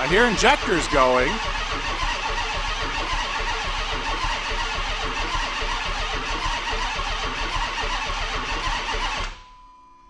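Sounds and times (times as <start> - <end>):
starter cranking car engine: 0.0 - 9.4.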